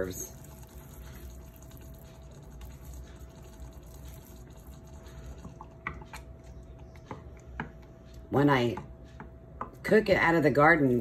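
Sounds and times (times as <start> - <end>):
low continuous hum: 0.0 - 11.0.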